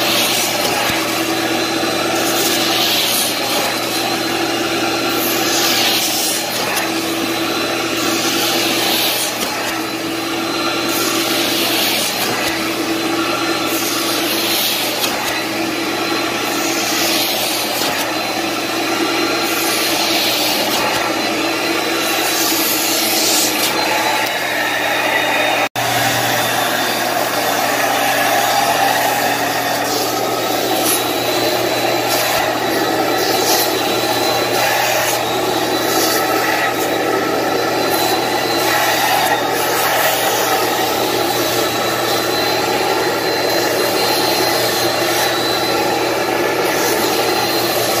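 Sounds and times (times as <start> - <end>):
vacuum suction on fabric: 0.0 - 48.0.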